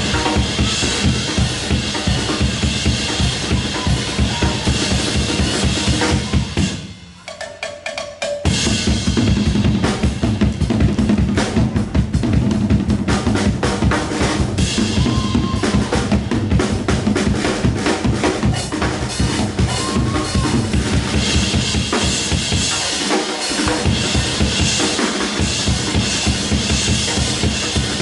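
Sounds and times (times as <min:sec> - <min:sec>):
drum kit beat: 0:00.0 - 0:28.0
live band playing: 0:00.0 - 0:28.0.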